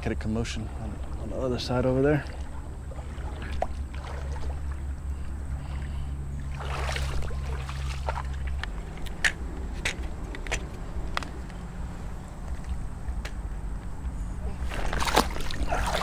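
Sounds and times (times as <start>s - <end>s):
water splashing while wading: 0.0s - 16.0s.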